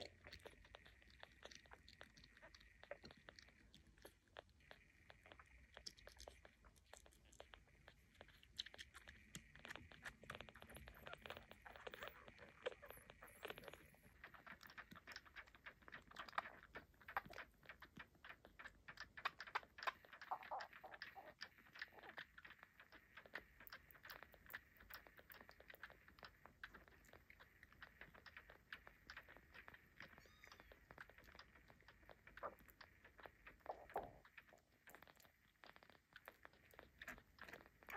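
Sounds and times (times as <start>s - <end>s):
kitten suckling on bottle: 0.0s - 37.9s.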